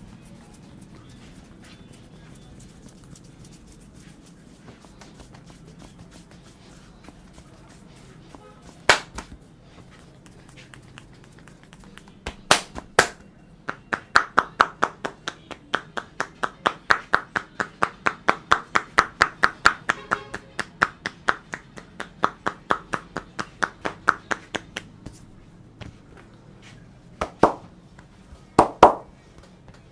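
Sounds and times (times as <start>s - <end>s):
palms slapping in massage: 0.0s - 26.3s, 27.2s - 29.5s.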